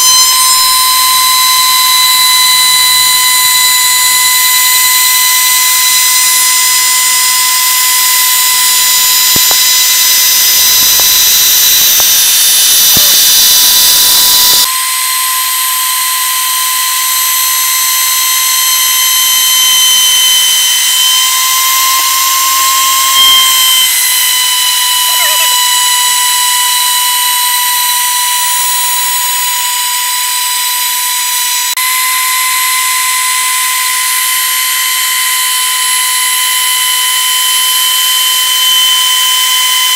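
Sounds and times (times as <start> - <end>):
router spindle high whine: 0.0 - 39.9.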